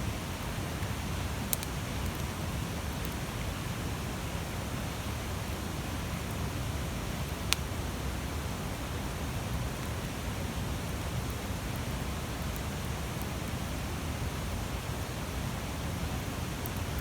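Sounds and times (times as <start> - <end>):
bonfire burning with hiss: 0.0 - 17.0
fire crackle: 0.1 - 17.0.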